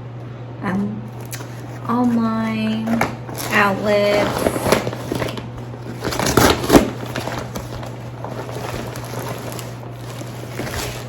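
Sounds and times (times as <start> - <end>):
steady low hum: 0.0 - 11.0
packaging rustling: 1.2 - 11.0.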